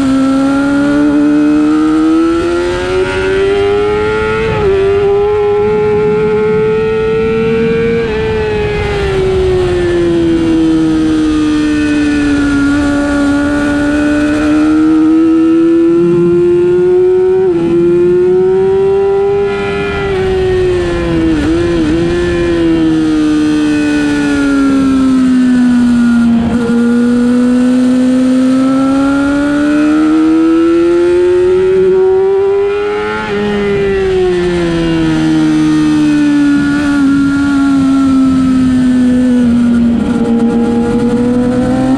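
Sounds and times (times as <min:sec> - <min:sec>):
superbike engine racing: 0:00.0 - 0:41.9
wind rush: 0:00.7 - 0:41.9.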